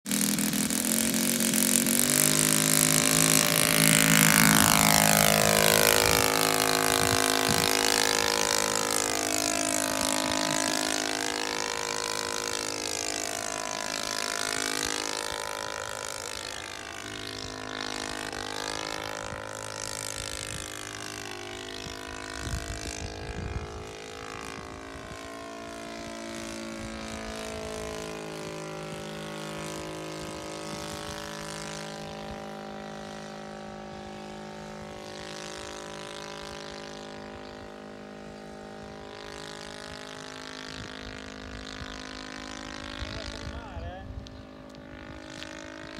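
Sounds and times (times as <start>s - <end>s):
model plane engine and propeller: 0.0s - 45.9s.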